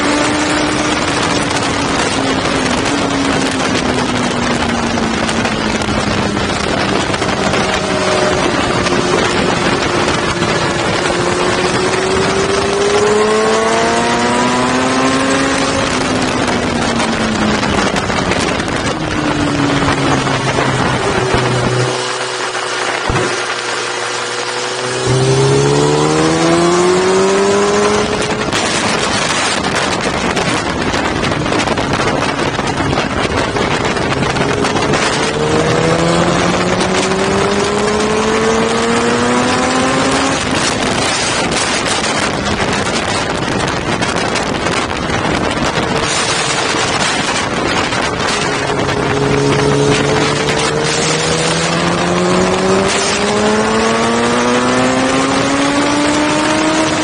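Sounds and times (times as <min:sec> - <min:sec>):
motorcycle engine accelerating: 0:00.0 - 0:57.0
wind rush on microphone: 0:00.0 - 0:57.0.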